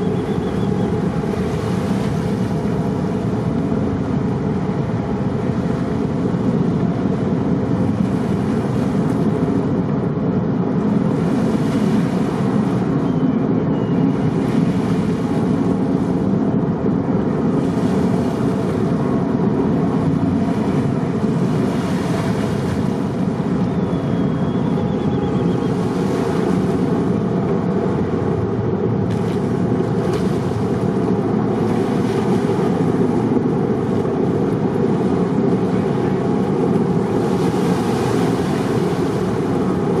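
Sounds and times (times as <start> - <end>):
ferry engines droning: 0.0 - 40.0
water wash: 0.0 - 40.0
wind: 0.0 - 40.0.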